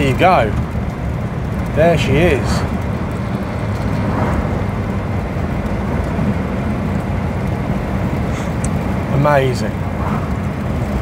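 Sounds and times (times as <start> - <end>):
car engine misfiring: 0.0 - 11.0
tyre and road noise: 0.0 - 11.0.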